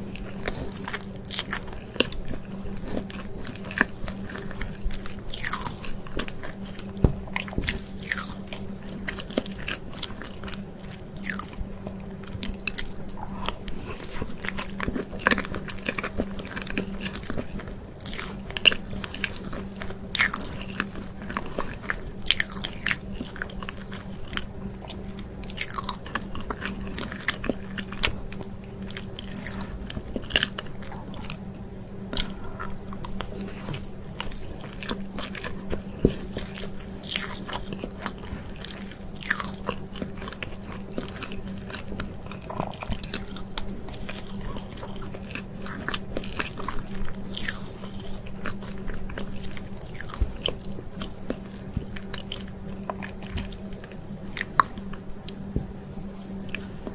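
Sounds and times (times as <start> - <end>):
person chewing cake: 0.0 - 56.9
steady low hum: 0.0 - 56.9
wet chewing sounds: 0.0 - 56.9.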